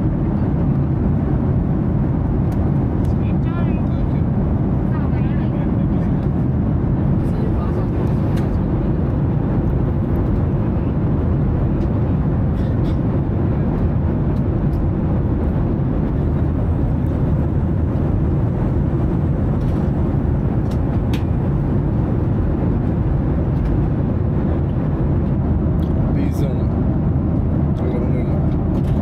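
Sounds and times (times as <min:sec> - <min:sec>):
airliner cabin roar: 0:00.0 - 0:29.0.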